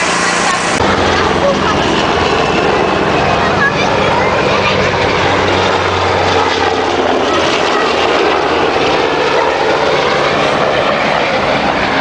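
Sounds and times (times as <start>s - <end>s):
aircraft engine droning: 0.0s - 12.0s
rush of noise: 0.0s - 12.0s.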